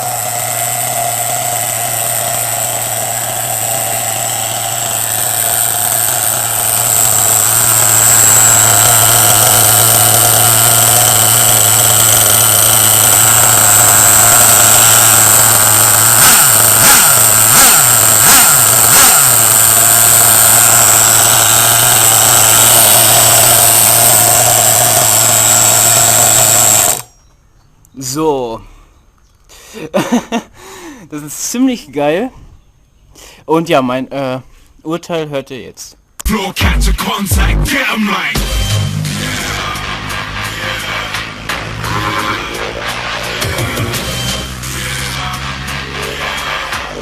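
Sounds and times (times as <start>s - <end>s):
nitro model engine idling: 0.0s - 27.2s, 36.2s - 47.0s.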